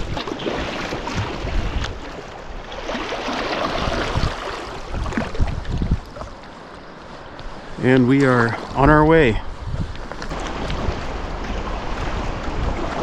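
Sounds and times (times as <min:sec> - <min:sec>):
river water rushing and splashing: 0:00.0 - 0:13.0
wind rumbling on microphone: 0:00.0 - 0:13.0.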